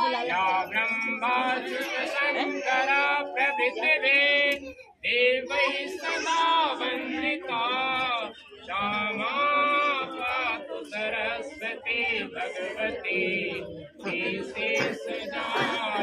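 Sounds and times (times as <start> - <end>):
group of people singing: 0.0 - 16.0.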